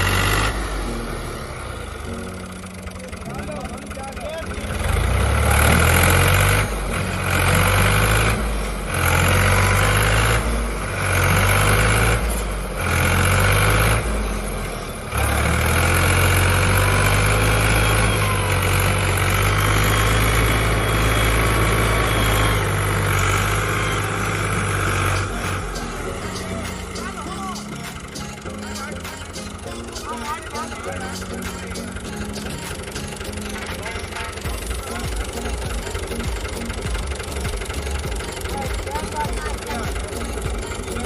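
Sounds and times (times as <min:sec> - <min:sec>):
tractor engine under load: 0:00.0 - 0:41.0.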